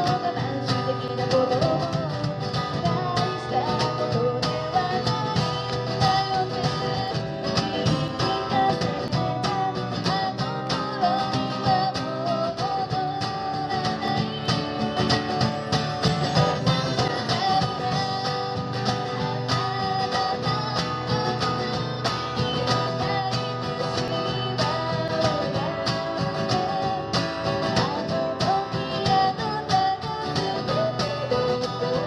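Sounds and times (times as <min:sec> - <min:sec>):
acoustic guitar strummed: 0:00.0 - 0:32.0.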